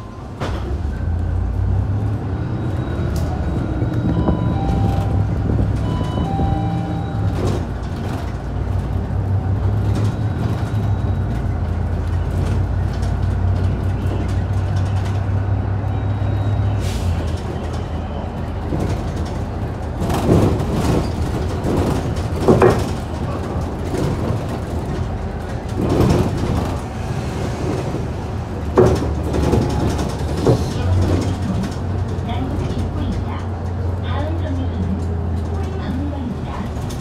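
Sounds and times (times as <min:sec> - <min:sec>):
bus engine hum: 0:00.0 - 0:37.0.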